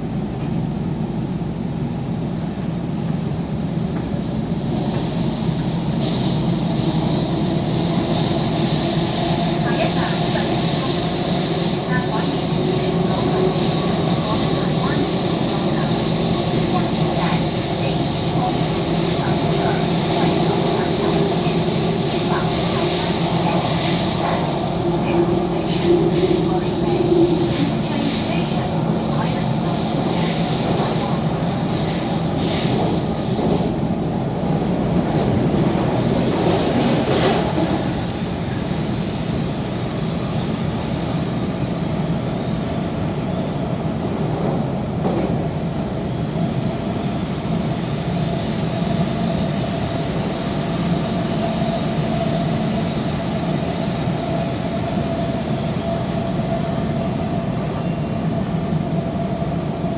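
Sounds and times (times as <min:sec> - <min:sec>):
high-pitched train whine: 0:00.0 - 0:59.9
train wheels rumbling on rail: 0:00.0 - 0:59.9.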